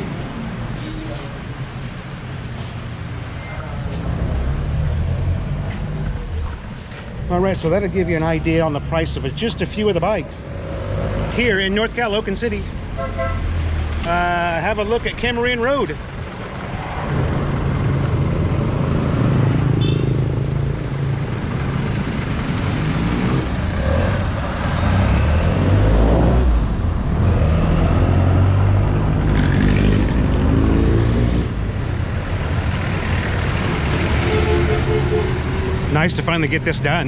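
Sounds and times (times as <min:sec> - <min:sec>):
motor vehicle engines running: 0:00.0 - 0:37.0
vehicles passing: 0:00.0 - 0:37.0.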